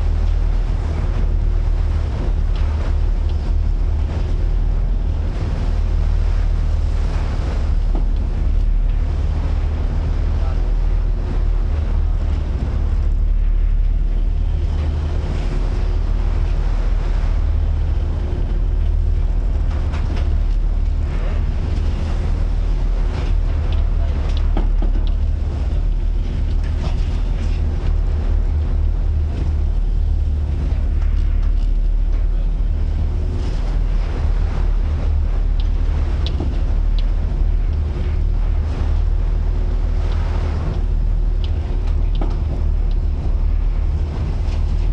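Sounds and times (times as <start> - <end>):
waves washing: 0.0 - 44.9
wind buffeting microphone: 0.0 - 44.9.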